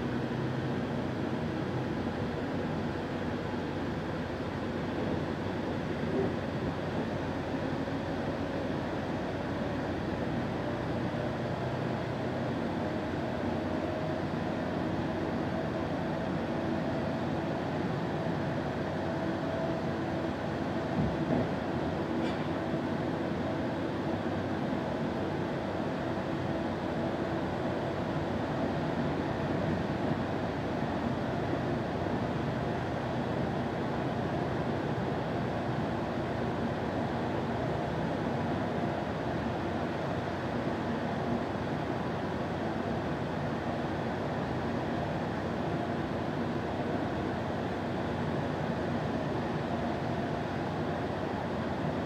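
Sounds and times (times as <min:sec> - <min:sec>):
bus drivetrain and road noise: 0:00.0 - 0:52.0.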